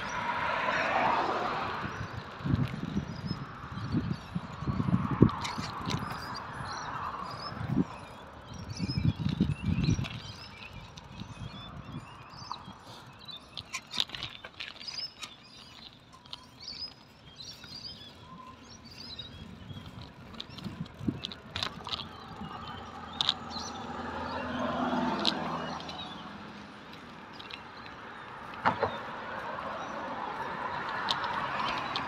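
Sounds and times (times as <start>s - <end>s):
bicycle rolling on concrete: 0.0s - 32.0s
birds chirping: 0.0s - 32.0s.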